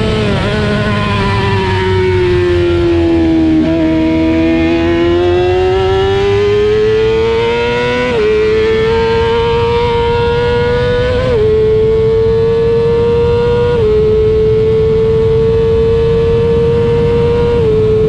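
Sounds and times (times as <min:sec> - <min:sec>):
racing motorcycle engine: 0:00.0 - 0:18.0.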